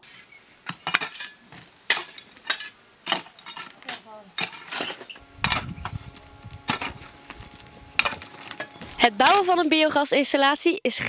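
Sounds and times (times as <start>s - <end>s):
metal tools scraping gravel: 0.0s - 10.1s.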